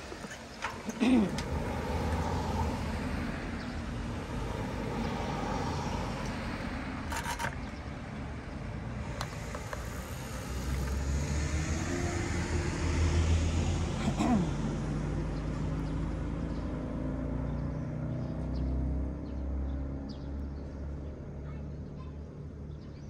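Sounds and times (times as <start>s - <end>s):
cars passing with engine rumble: 0.0s - 23.0s.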